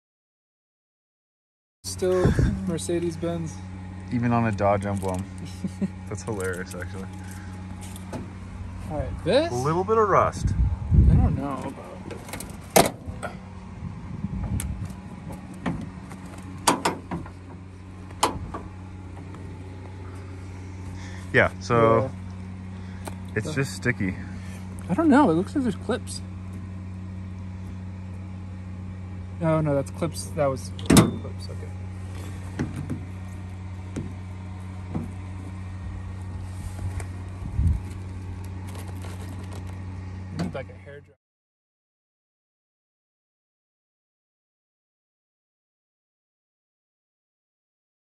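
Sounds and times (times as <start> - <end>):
vehicle engine idling: 1.9 - 41.1
low steady hum: 1.9 - 41.2.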